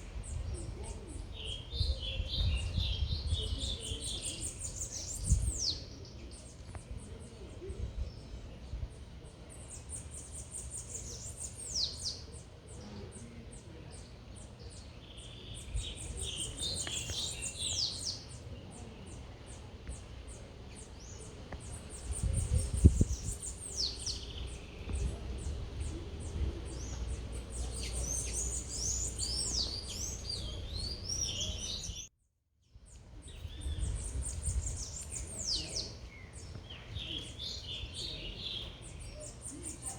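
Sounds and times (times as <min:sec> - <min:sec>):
low rumble of city noise: 0:00.0 - 0:32.1, 0:32.8 - 0:39.9
small birds chirping: 0:00.0 - 0:32.1, 0:32.7 - 0:39.9.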